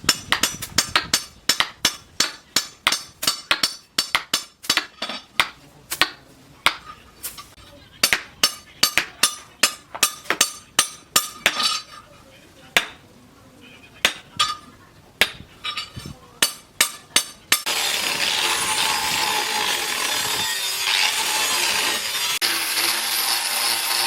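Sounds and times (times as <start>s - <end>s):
hammer striking steel on anvil: 0.0s - 12.0s, 12.8s - 13.0s, 14.0s - 14.6s, 15.2s - 22.0s.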